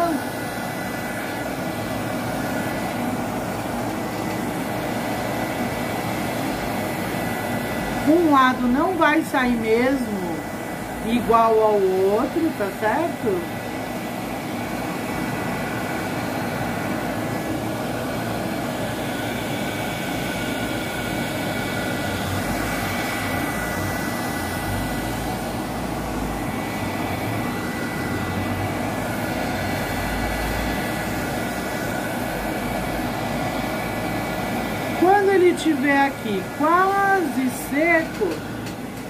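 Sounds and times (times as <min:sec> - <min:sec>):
heat gun blowing: 0:00.0 - 0:39.0.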